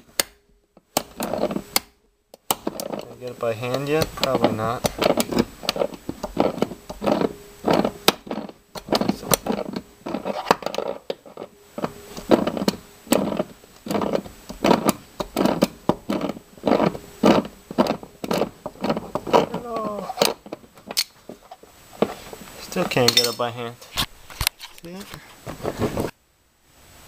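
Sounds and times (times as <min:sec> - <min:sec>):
rusted bolt creaking and grinding: 0:00.0 - 0:26.1.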